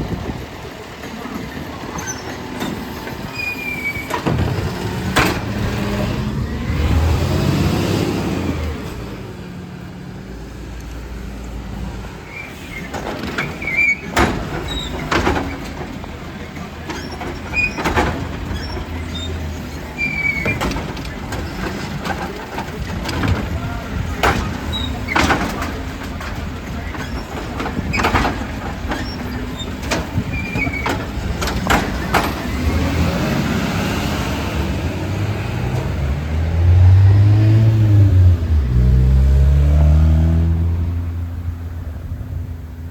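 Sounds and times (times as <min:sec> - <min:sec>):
truck engine running: 0:04.1 - 0:39.2.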